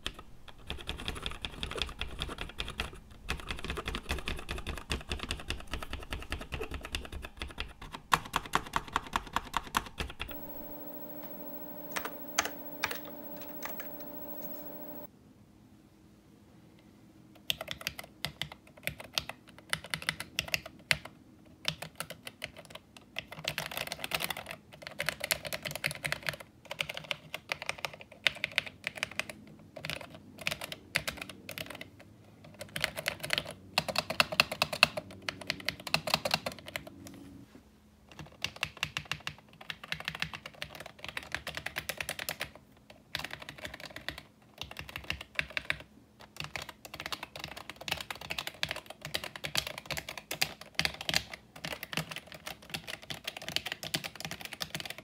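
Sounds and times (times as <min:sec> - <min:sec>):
computer keyboard typing: 0:00.0 - 0:15.1, 0:17.4 - 0:37.0, 0:38.1 - 0:55.0.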